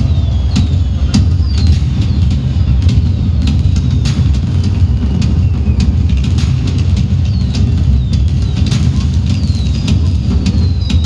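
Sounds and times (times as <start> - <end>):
falling whistles: 0.0 - 11.0
fireworks crackles: 0.0 - 11.0
fireworks deep rumble: 0.0 - 11.0.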